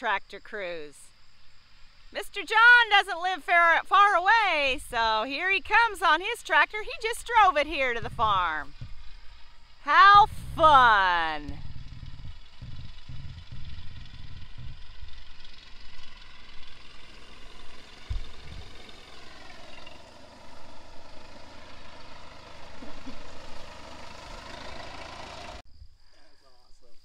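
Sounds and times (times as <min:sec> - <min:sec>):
tractor engine running: 0:03.9 - 0:25.6.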